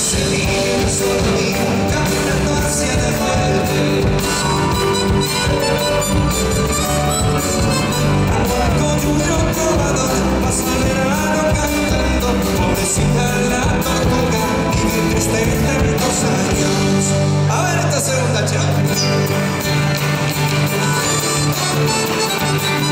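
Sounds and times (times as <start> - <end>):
man singing into a microphone: 0.0 - 5.6, 7.9 - 19.4, 20.5 - 22.0
drums: 0.0 - 22.9
electric bass: 0.0 - 22.9.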